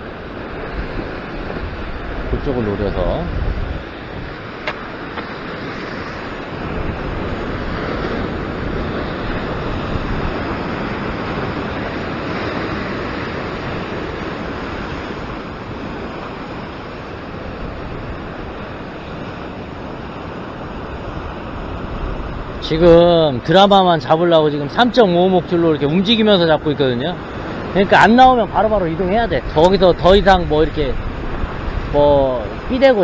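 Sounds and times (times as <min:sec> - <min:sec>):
ocean surf breaking on rocks: 0:00.0 - 0:33.0.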